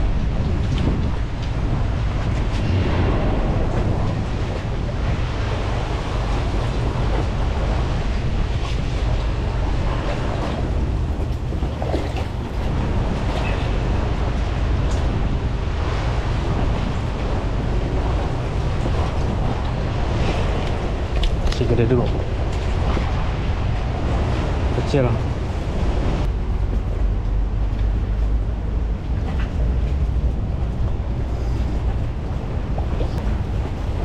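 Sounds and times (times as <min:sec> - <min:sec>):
water lapping against pilings: 0:00.0 - 0:34.0
wind buffeting microphone: 0:00.0 - 0:34.0.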